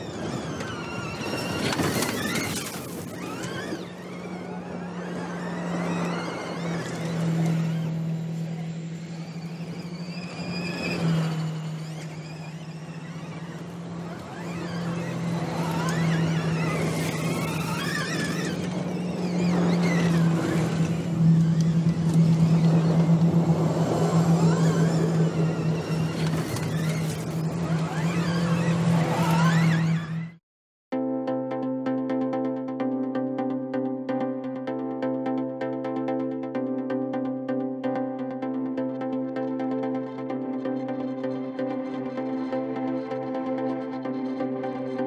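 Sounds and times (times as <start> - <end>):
electric car whine and hum: 0.0 - 30.4, 31.2 - 45.0.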